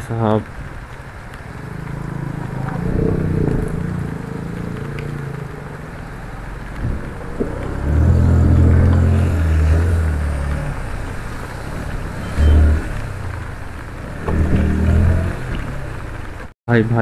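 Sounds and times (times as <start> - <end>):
constant rushing hiss: 0.0 - 17.0
vehicle engines droning: 0.4 - 16.5.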